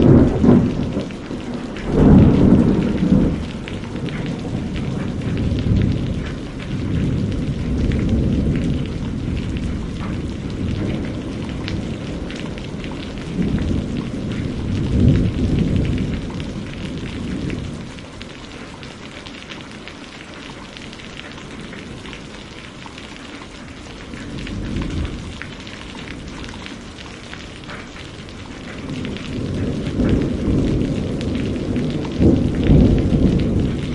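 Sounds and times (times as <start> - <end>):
thunder rumbling: 0.0 - 18.7, 23.7 - 33.9
steady rain: 0.0 - 33.9.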